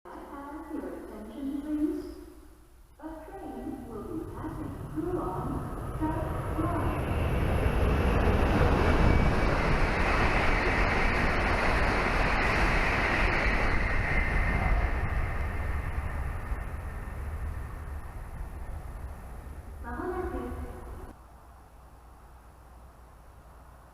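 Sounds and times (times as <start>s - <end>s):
high-speed train rushing past: 3.0s - 23.9s.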